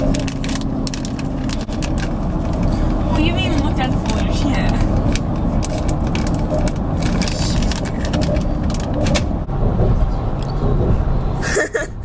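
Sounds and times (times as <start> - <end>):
sharp clicks and rustles: 0.0 - 11.0
car road and engine rumble: 0.0 - 12.0.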